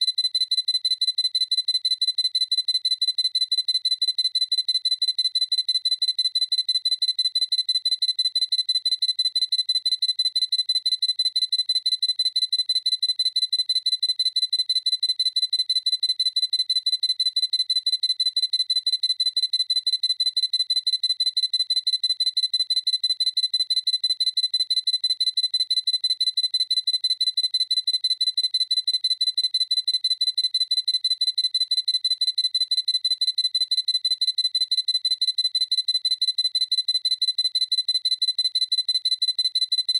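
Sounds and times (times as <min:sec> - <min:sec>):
camera focus beeps: 0:00.0 - 0:39.9.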